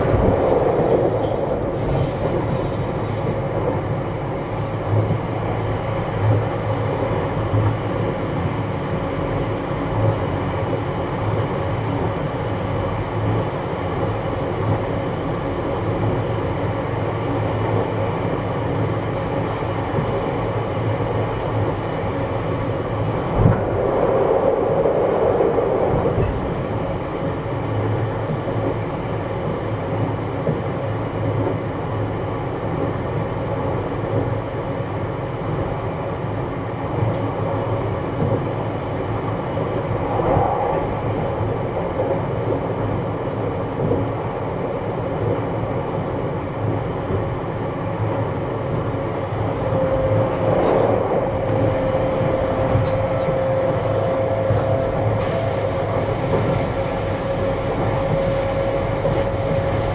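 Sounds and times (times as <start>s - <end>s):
train rolling noise: 0.0s - 59.9s.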